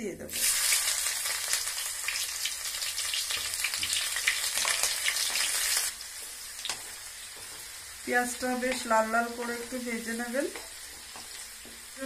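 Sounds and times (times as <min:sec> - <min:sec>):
onions sizzling in hot oil: 0:00.3 - 0:12.0.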